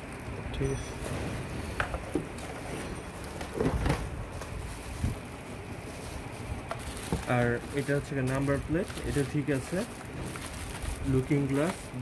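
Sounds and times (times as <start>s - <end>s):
boxes and plastic parts handled: 0.6s - 12.0s.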